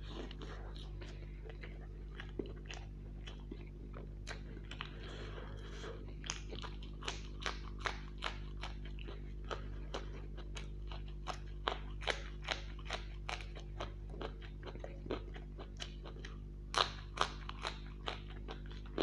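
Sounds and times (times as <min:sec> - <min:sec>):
crisp crunches of chilli bitten: 0:00.0 - 0:19.0
mouth chewing fried snack: 0:00.0 - 0:19.0
steady low hum: 0:00.0 - 0:19.0.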